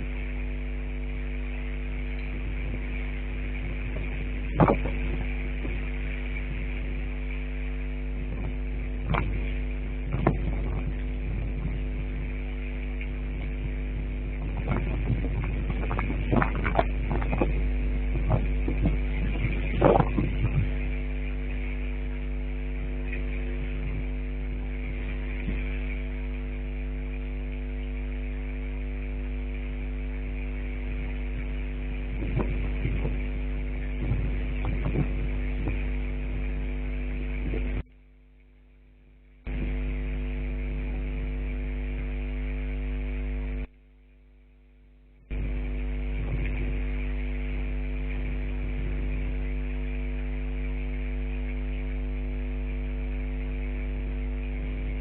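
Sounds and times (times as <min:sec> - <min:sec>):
electrical hum: 0:00.0 - 0:55.0.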